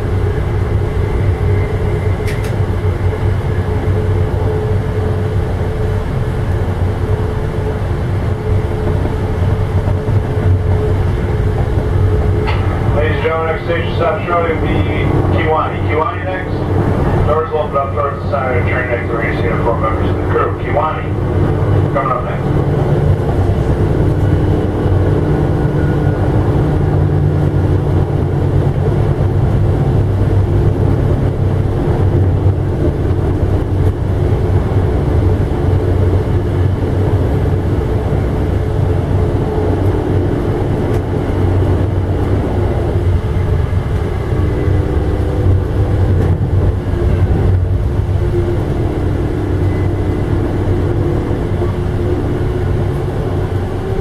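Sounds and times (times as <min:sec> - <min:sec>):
steady low hum: 0:00.0 - 0:54.0
train wheels rumbling on rails: 0:00.0 - 0:54.0.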